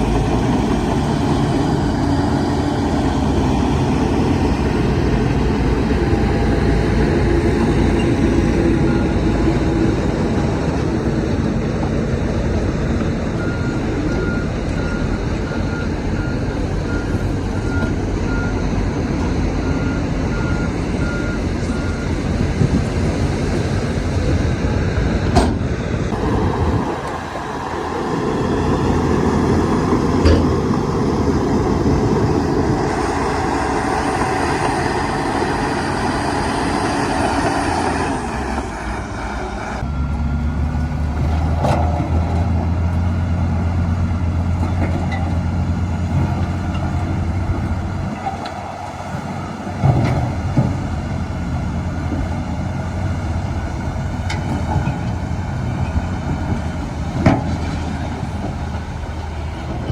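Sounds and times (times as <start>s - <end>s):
heavy diesel machinery rumble: 0.0s - 59.9s.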